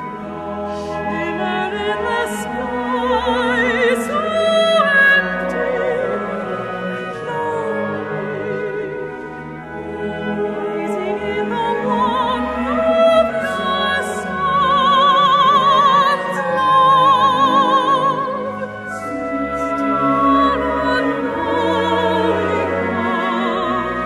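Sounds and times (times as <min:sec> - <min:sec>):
orchestra playing: 0:00.0 - 0:24.0
soprano singing with vibrato: 0:00.0 - 0:24.0.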